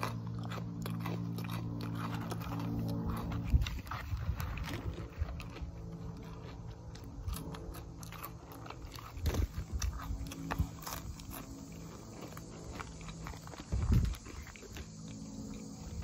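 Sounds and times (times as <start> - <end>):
person chewing crunchy food: 0.0 - 16.0
steady low hum: 0.0 - 16.0.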